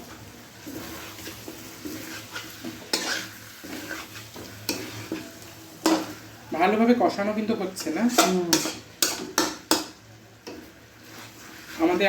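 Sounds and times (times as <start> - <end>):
sauce sizzling in a pan: 0.0 - 12.0
spatula scraping a pan: 0.0 - 12.0.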